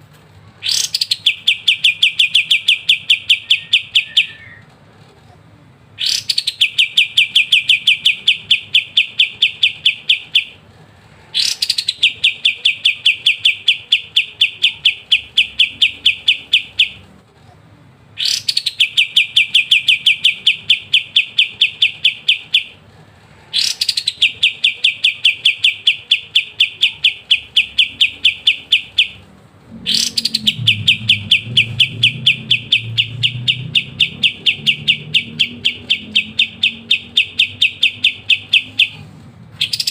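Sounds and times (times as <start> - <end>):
faint low hum: 0.0 - 39.9
songbird rattling song: 0.6 - 4.7, 6.0 - 10.6, 11.4 - 17.0, 18.2 - 22.8, 23.5 - 29.2, 29.8 - 39.9.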